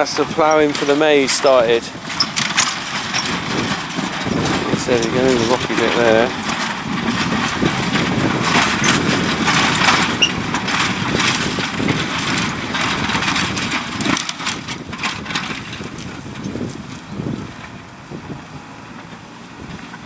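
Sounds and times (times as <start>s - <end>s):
tractor engine working: 0.0s - 20.0s.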